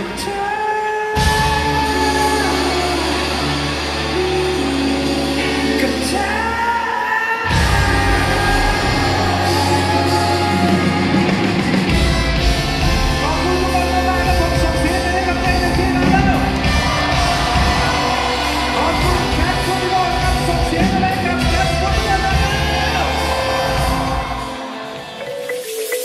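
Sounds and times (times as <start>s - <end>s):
live pop-rock band playing: 0.0s - 26.0s
person singing: 0.0s - 26.0s.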